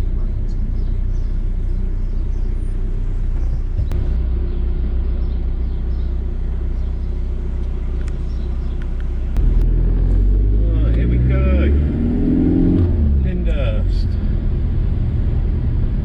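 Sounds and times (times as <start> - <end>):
van engine rumbling: 0.0 - 16.0.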